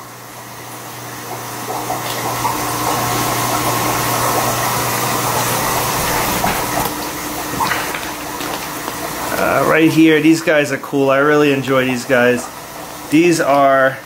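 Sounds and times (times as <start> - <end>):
running water: 0.2 - 14.0.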